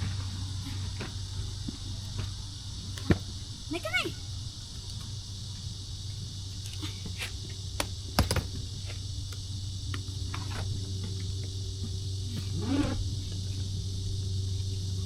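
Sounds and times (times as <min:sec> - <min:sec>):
high insect chirring: 0:00.0 - 0:15.0
low hum: 0:00.0 - 0:15.0.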